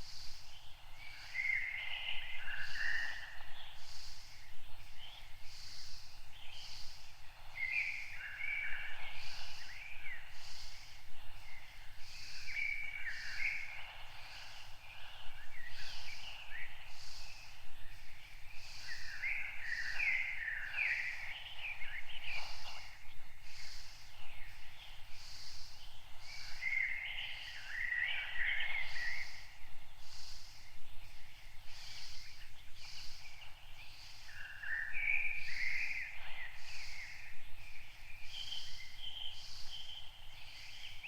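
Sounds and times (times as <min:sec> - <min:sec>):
birds singing: 0:00.0 - 0:41.0.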